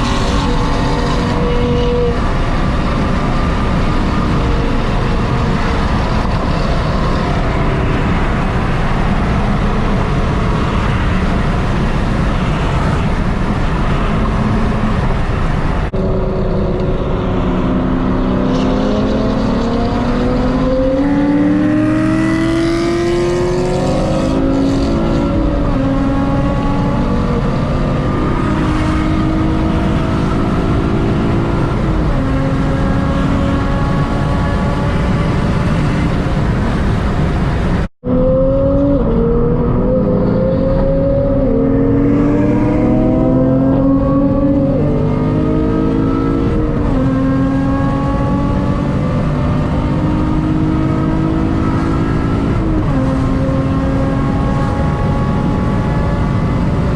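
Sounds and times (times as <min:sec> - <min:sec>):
car engines revving up: 0:00.0 - 0:56.9
steady rushing noise: 0:00.0 - 0:56.9.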